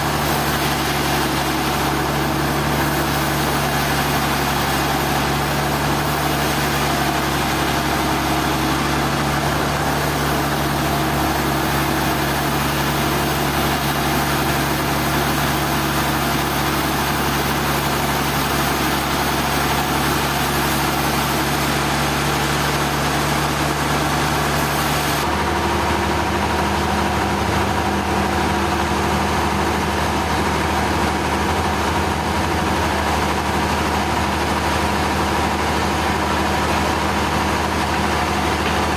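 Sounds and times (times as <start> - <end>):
engine hum: 0.0 - 38.9
sawmill machinery noise: 0.0 - 38.9.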